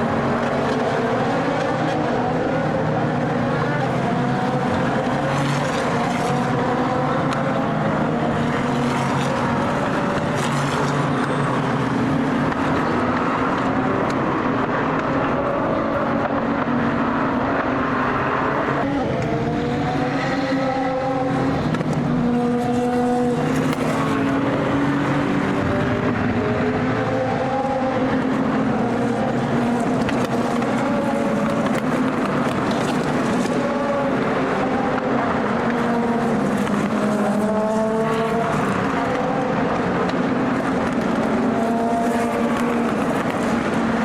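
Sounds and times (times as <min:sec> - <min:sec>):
racing car engines passing: 0:00.0 - 0:44.0.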